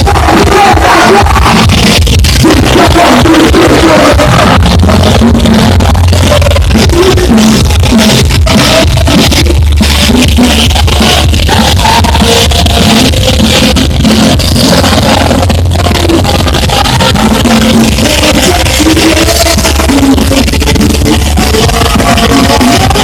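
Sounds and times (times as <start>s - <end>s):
live band music: 0.0s - 23.0s
steady bass: 0.0s - 23.0s.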